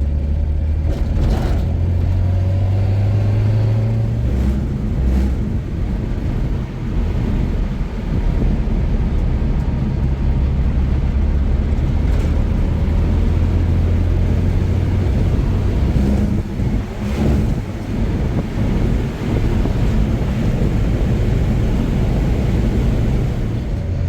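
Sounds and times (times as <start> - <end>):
car engine and road noise: 0.0 - 24.0
wind buffeting microphone: 0.0 - 24.0.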